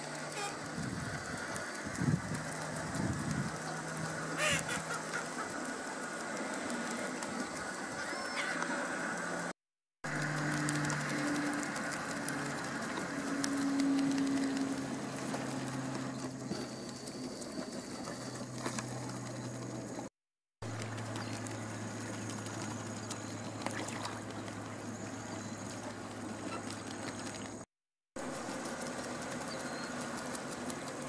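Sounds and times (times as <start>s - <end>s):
distant motor hum: 0.0s - 9.5s, 10.1s - 27.6s, 28.2s - 31.0s
outdoor background noise: 0.0s - 31.0s.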